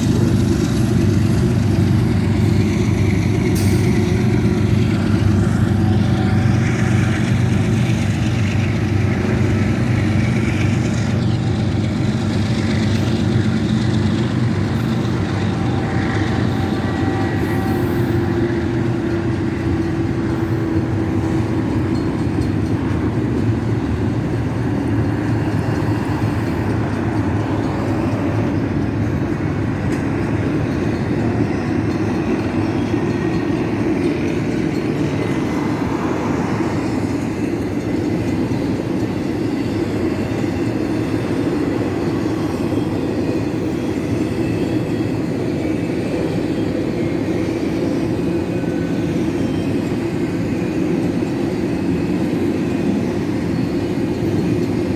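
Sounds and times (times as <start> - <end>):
freight train rumbling past: 0.0 - 54.9
train wheels clicking over rail joints: 0.0 - 54.9.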